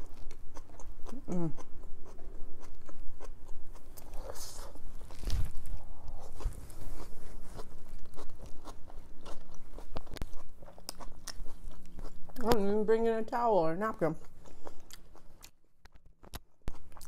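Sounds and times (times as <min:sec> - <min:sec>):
crunchy chewing: 0:00.0 - 0:12.7, 0:14.2 - 0:17.0.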